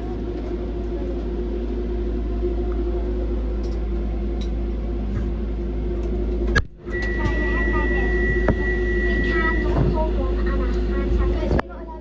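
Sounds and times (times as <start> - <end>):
train interior hum with constant tone: 0.0 - 12.0
wheels rumbling on track: 0.0 - 12.0.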